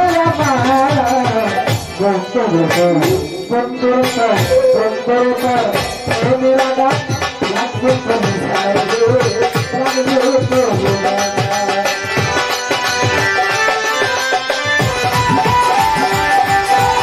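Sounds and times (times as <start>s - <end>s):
hand drum rhythm: 0.0s - 17.0s.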